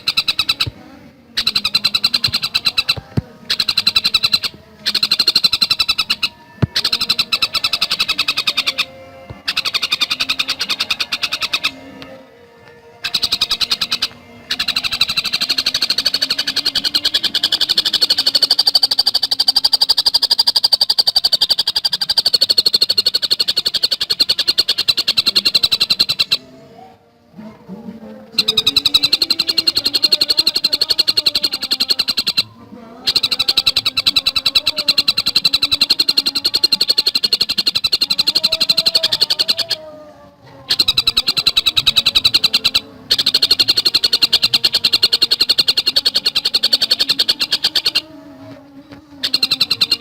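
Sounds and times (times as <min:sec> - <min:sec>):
bird chattering song: 0:00.0 - 0:50.0.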